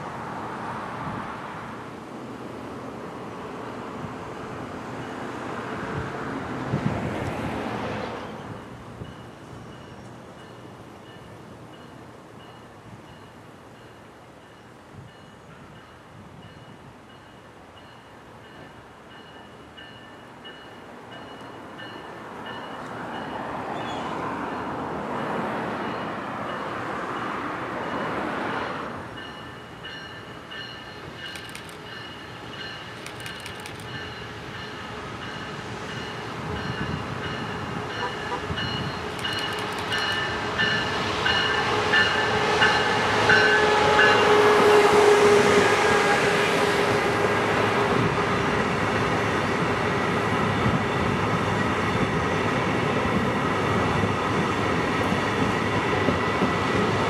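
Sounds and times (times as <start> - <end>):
passenger train rolling past: 0.0 - 57.0.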